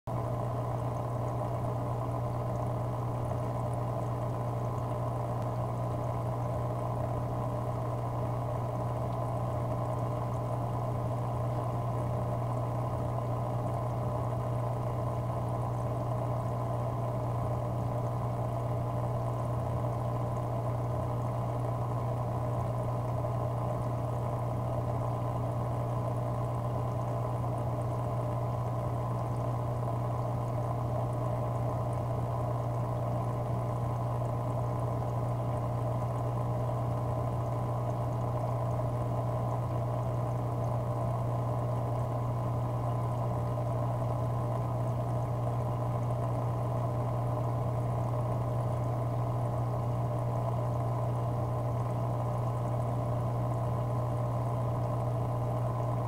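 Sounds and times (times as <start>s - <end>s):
aquarium pump humming: 0.1s - 56.0s.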